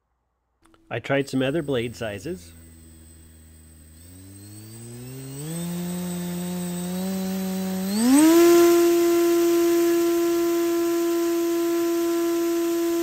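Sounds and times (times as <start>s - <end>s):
electric motor and propeller humming: 0.7s - 13.0s.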